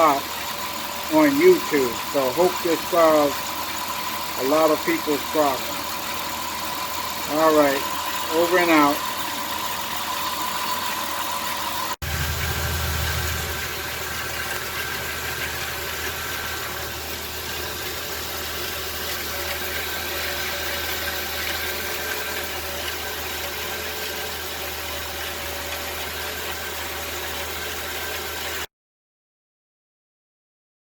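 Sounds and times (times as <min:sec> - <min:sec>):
car engine idling: 0:00.0 - 0:28.3.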